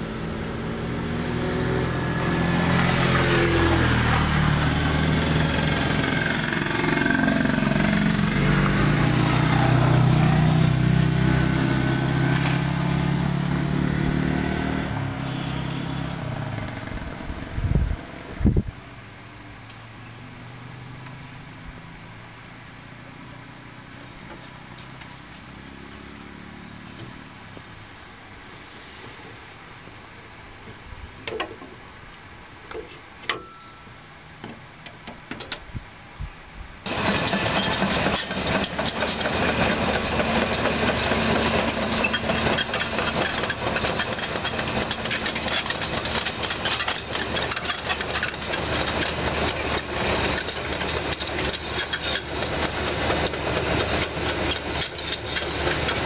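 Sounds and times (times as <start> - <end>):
excavator diesel engine and hydraulics: 0.0 - 36.1, 36.8 - 56.0.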